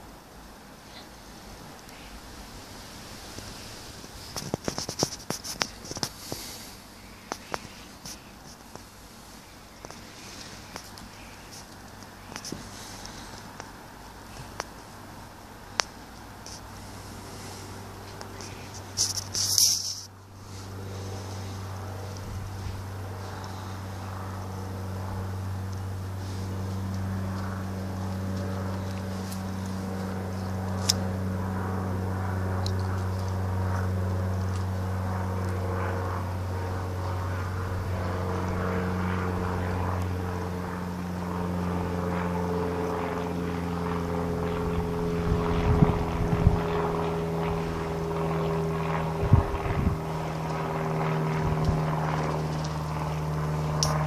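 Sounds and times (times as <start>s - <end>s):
aircraft engine drone: 0.0s - 54.0s.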